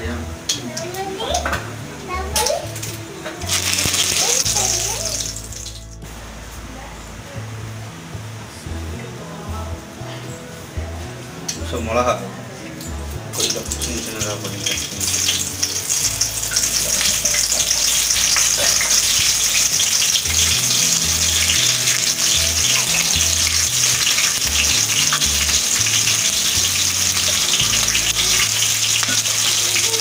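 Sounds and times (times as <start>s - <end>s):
hot oil sizzling: 0.0s - 10.2s, 12.8s - 30.0s.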